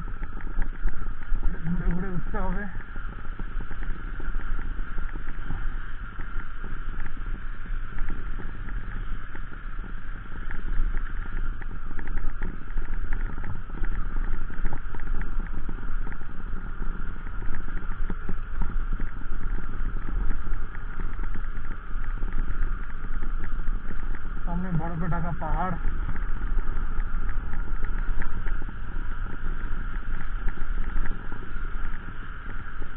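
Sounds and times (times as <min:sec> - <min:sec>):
wind noise: 0:00.0 - 0:32.9.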